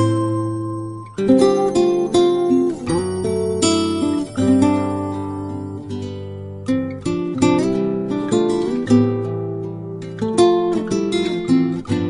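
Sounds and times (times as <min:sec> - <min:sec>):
acoustic guitar chords: 0:00.0 - 0:12.0.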